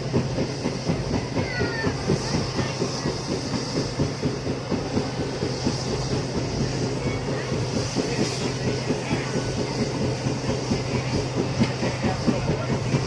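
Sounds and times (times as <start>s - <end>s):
train rumble: 0.0s - 13.0s
wheels clattering over rails: 0.0s - 13.0s.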